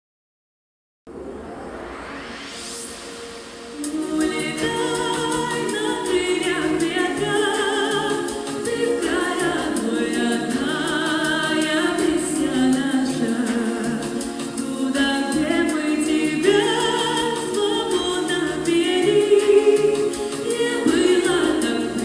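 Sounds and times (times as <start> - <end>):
female choir singing: 3.8 - 22.0.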